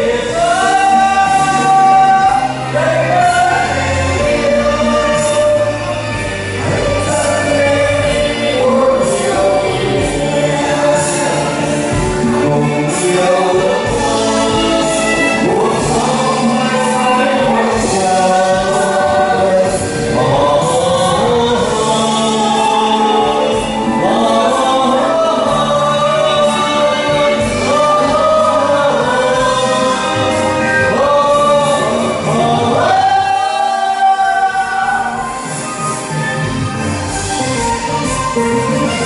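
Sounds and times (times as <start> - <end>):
man and woman singing: 0.0 - 35.9
accompanying music: 0.0 - 39.0.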